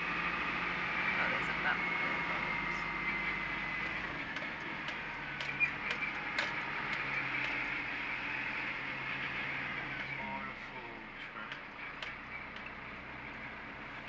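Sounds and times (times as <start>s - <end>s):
diesel truck engine running: 0.0s - 14.0s
tyres on gravel: 0.0s - 14.0s.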